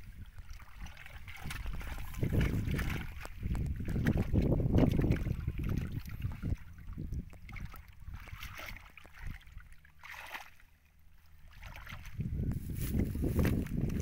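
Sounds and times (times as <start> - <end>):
hands splashing in muddy water: 0.2 - 10.6, 11.4 - 14.0.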